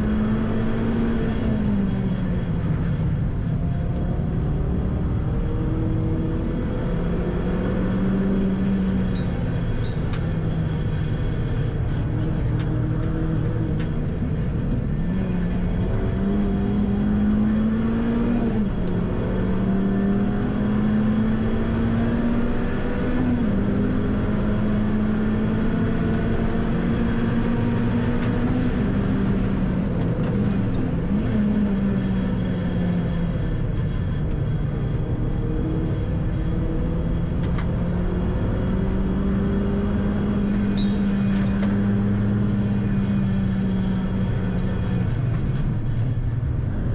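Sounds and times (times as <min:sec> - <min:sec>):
car engine under hard driving: 0:00.0 - 0:46.9.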